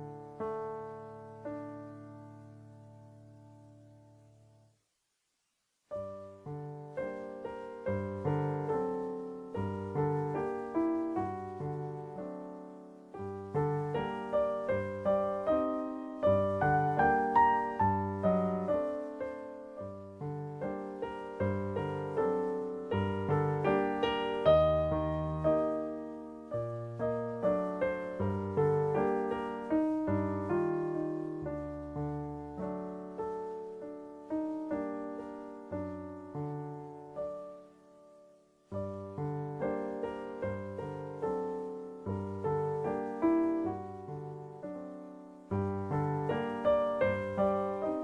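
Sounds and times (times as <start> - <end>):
piano music: 0.0 - 4.6, 5.9 - 48.0.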